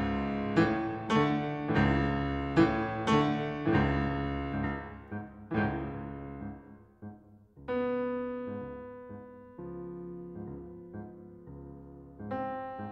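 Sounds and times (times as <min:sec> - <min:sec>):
piano music: 0:00.0 - 0:12.9.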